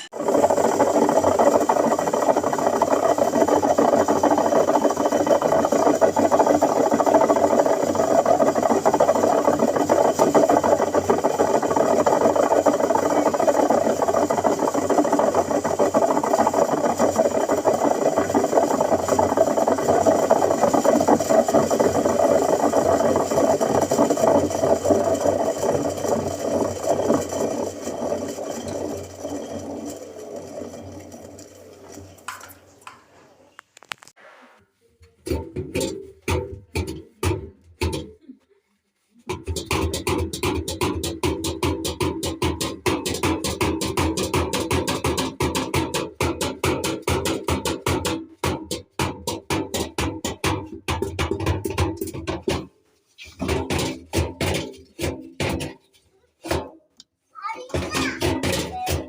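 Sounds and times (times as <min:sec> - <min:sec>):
washing machine rumbling and rattling: 0:00.0 - 0:32.9, 0:35.1 - 0:38.3, 0:39.3 - 0:59.0.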